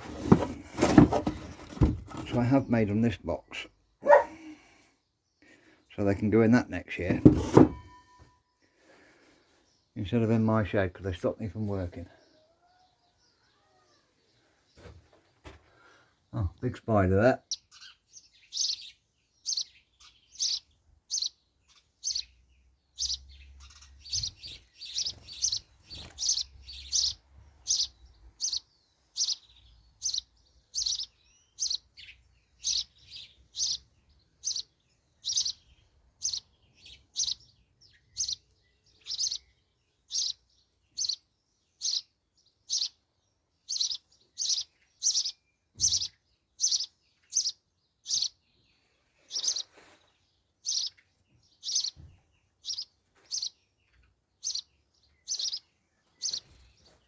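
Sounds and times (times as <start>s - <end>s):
nestling birds chirping: 0.0s - 57.0s.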